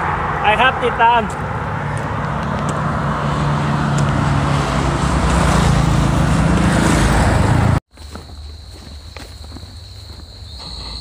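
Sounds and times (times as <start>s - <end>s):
road traffic noise: 0.0s - 8.7s, 9.7s - 11.0s.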